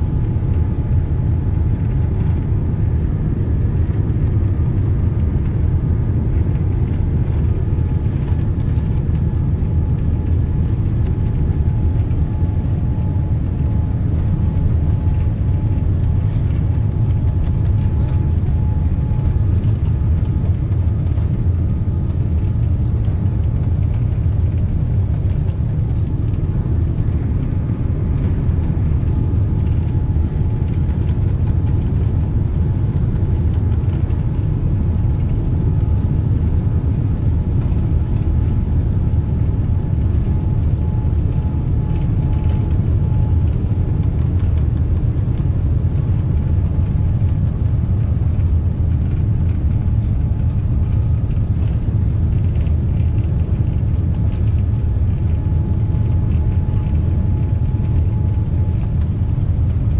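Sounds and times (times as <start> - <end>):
airliner cabin engine rumble: 0.0 - 59.9
faint steady whine: 0.0 - 59.9.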